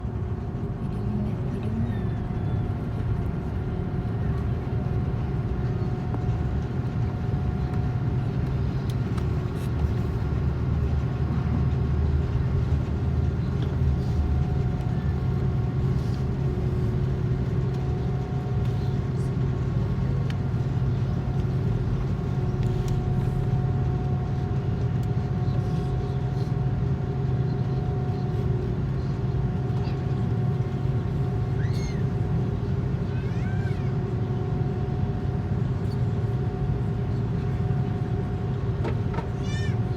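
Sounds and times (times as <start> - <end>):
airliner low drone: 0.0 - 39.9
constant pitched hum: 0.0 - 39.9.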